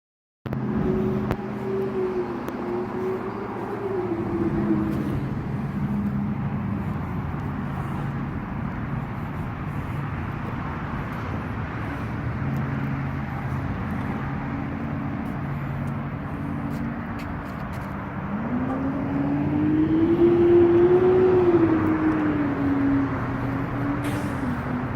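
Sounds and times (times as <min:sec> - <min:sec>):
engine running: 0:00.5 - 0:24.9.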